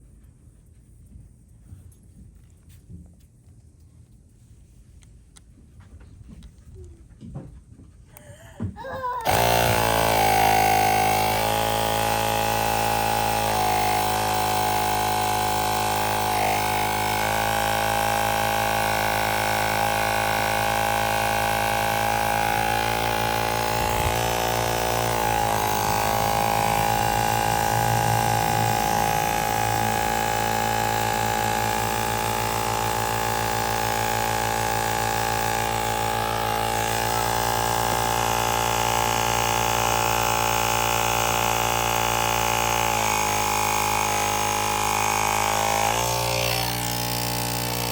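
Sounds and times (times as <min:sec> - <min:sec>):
air compressor running: 0:08.2 - 0:47.9.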